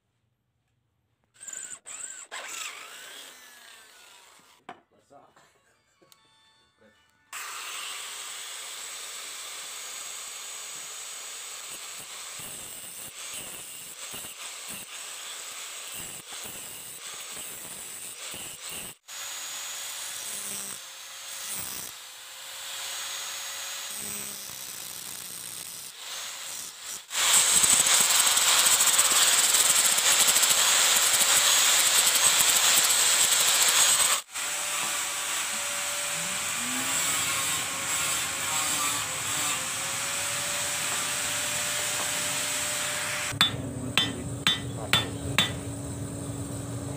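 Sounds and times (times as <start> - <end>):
power tool grinding steel blade: 1.4 - 4.6, 7.3 - 46.6.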